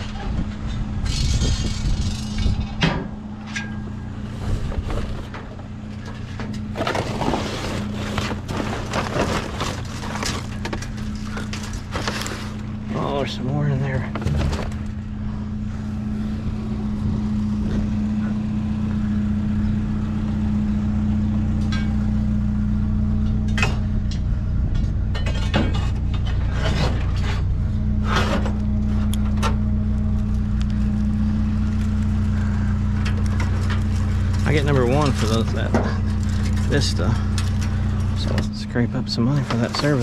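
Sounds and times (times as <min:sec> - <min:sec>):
vehicle engine idling: 0:00.0 - 0:40.0.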